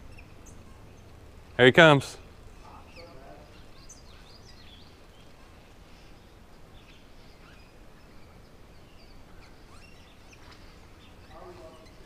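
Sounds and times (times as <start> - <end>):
bird chirps and calls: 0.0 - 1.3, 2.2 - 12.0
low background rumble: 0.0 - 12.0.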